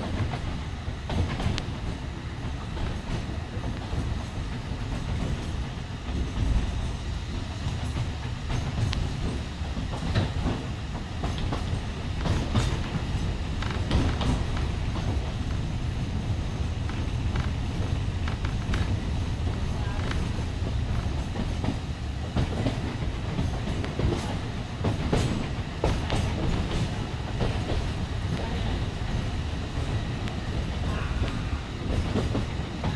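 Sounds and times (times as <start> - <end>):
train carriage rumbling: 0.0 - 32.9
wheels clicking on rails: 0.0 - 32.9.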